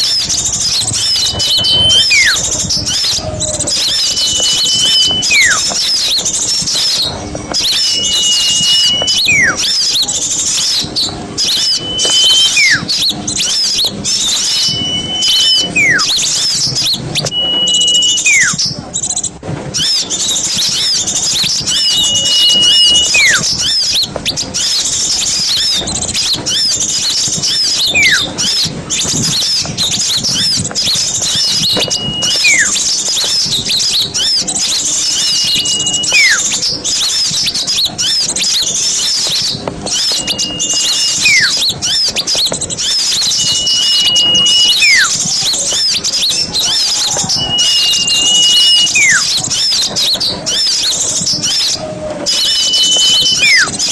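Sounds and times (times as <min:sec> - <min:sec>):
clear falling whistle: 0:00.0 - 0:18.7, 0:19.8 - 0:53.9
flock of small birds chirping: 0:00.0 - 0:53.9.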